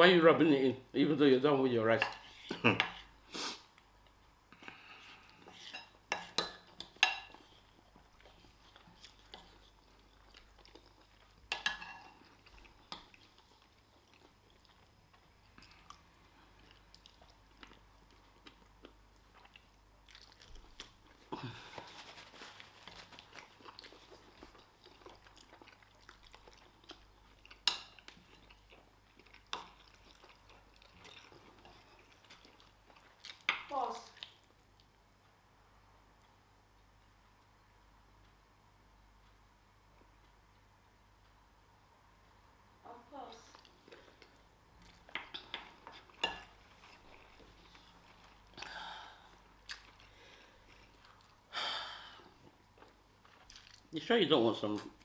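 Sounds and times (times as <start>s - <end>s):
people chewing food: 2.1s - 42.6s, 43.4s - 54.0s.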